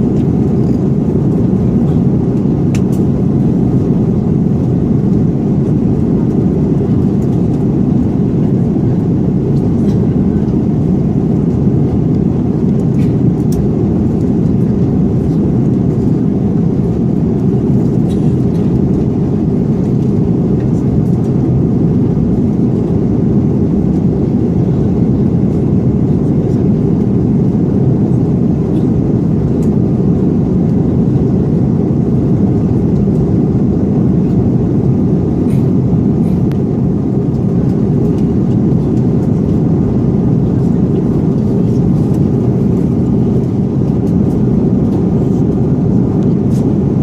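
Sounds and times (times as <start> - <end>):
airliner cabin engine and air noise: 0.0 - 47.0.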